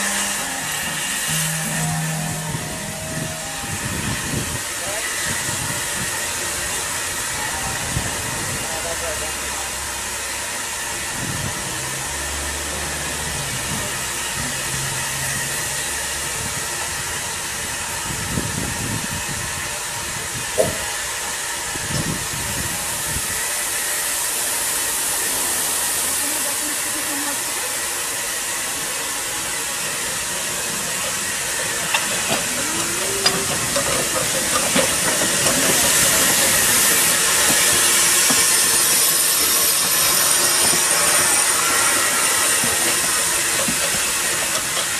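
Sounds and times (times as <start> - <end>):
steam hissing: 0.0 - 44.9.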